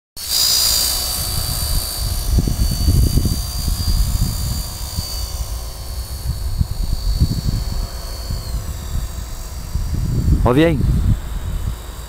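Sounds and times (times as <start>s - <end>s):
model plane motor whine: 0.2s - 12.0s.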